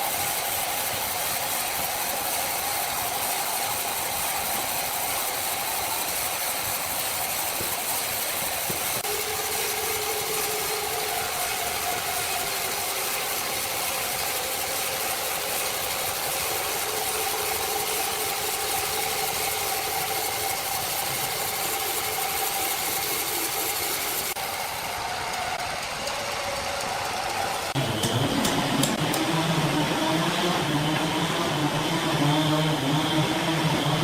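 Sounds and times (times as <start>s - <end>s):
machinery hiss: 0.0s - 29.2s
sawmill machinery hum: 0.0s - 34.0s.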